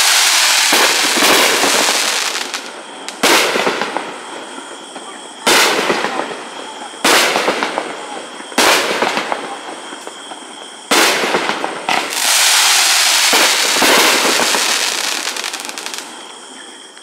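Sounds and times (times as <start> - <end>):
fireworks bursting and crackling: 0.0 - 16.4.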